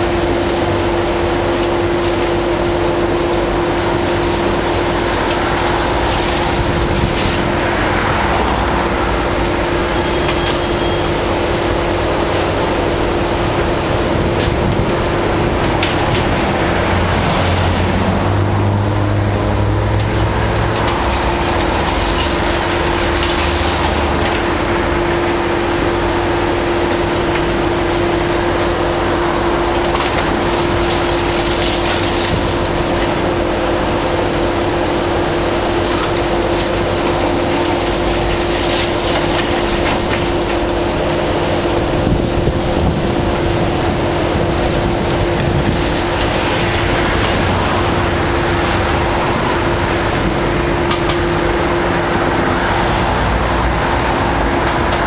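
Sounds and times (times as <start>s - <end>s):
excavator engine and hydraulic drone: 0.0s - 55.0s.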